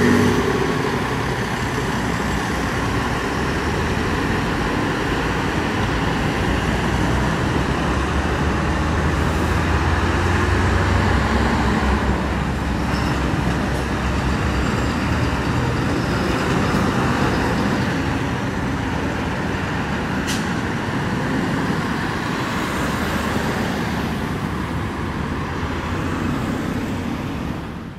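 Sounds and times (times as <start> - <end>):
diesel fire engines driving past: 0.0 - 27.9.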